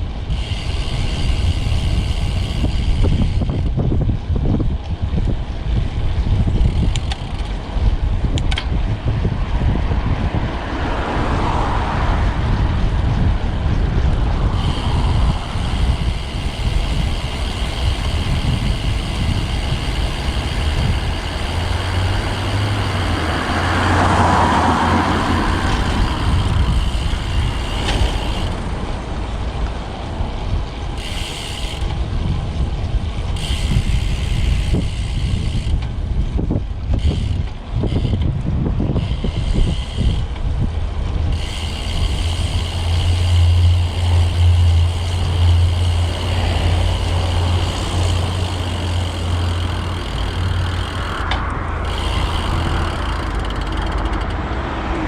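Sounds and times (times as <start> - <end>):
motor vehicles passing: 0.0 - 55.0
wind rumbling on microphone: 0.0 - 55.0.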